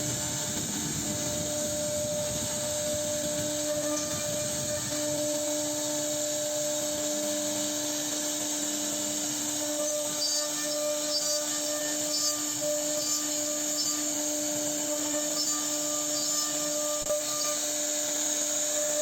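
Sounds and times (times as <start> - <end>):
router spindle tone: 0.0 - 19.0
wood cutting hiss: 0.0 - 19.0.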